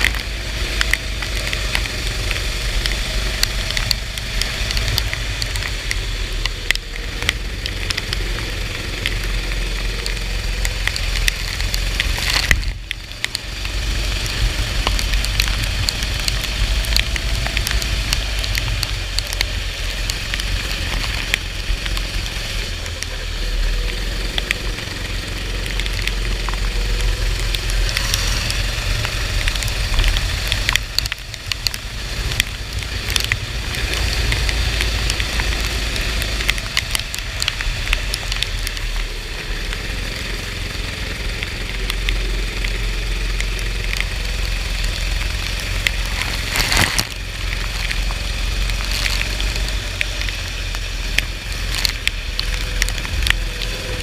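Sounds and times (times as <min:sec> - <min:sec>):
go-kart engine running: 0:00.0 - 0:54.0
sharp crackles: 0:00.0 - 0:54.0.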